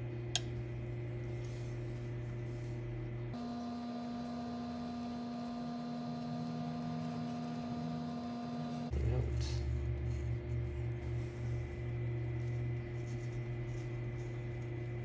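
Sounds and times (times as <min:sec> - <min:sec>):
steady hum of held tones: 0:00.0 - 0:15.0.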